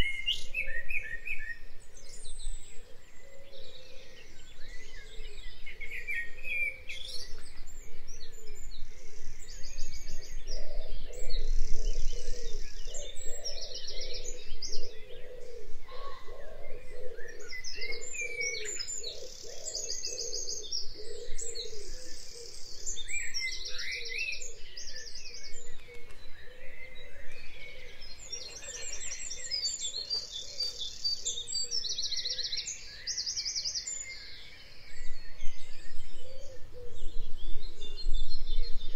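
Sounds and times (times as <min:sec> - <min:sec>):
birds trilling and chirping: 0:00.0 - 0:38.9.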